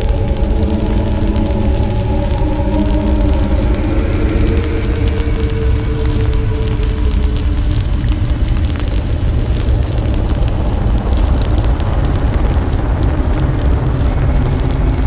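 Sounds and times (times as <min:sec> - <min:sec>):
deep rumble: 0:00.0 - 0:15.0
fire-like crackles and pops: 0:00.0 - 0:15.0.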